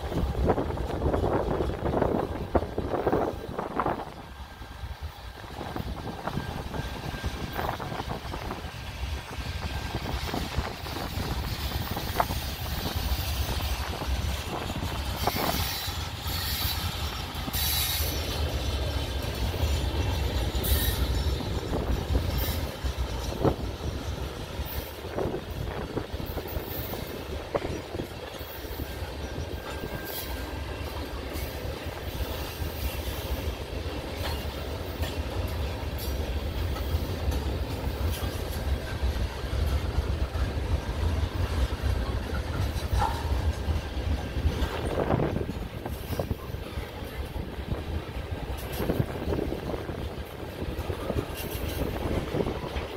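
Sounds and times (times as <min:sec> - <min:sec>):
freight train rumble: 0:00.0 - 0:52.9
wheels clanking on rails: 0:00.0 - 0:52.9.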